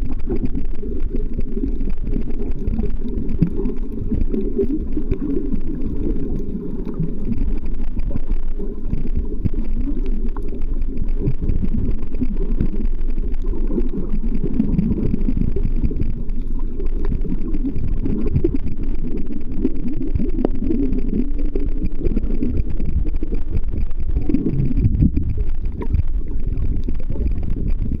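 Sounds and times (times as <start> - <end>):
faint clicks: 0.0 - 28.0
underwater water rumble: 0.0 - 28.0.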